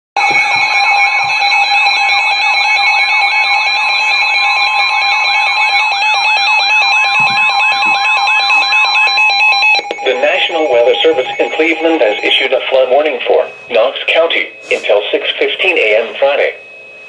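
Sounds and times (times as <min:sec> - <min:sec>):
fast warbling alarm sweep: 0:00.2 - 0:17.0
steady electronic alarm tones: 0:00.2 - 0:17.0.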